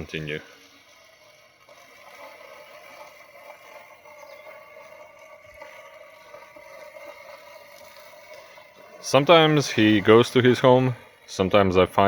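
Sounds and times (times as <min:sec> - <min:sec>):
lawn mower electric motor humming: 0:00.0 - 0:12.0.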